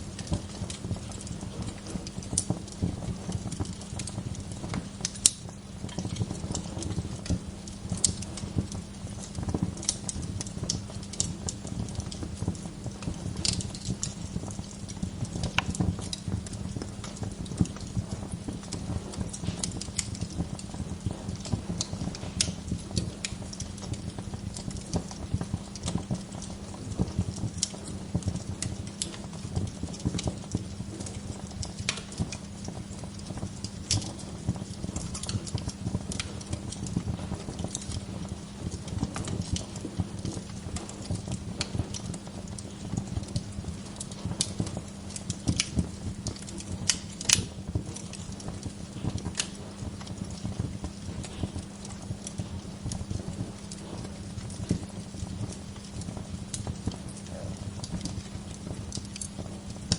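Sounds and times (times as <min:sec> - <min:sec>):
low steady hum: 0:00.0 - 0:59.9
wood fire crackling and popping: 0:00.0 - 0:59.9.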